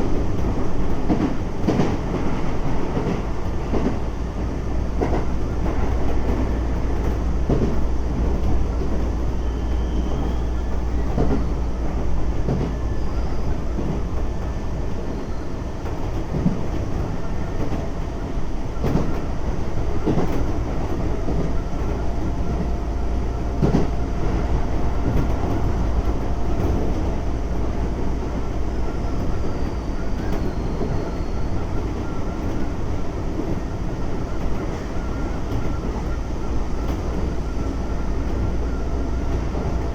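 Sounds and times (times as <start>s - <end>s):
train running rumble: 0.0s - 39.9s.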